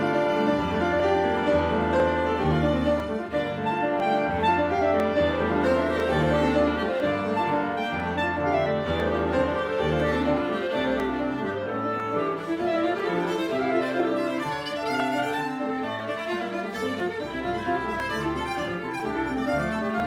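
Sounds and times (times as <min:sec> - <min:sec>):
bowed strings: 0:00.0 - 0:20.0
piano: 0:00.0 - 0:20.0.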